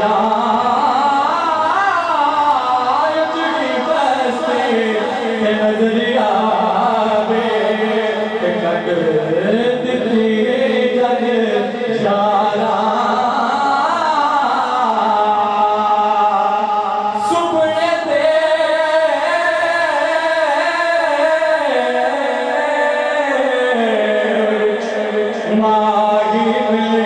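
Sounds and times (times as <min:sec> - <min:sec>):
man singing devotional song: 0:00.0 - 0:27.0.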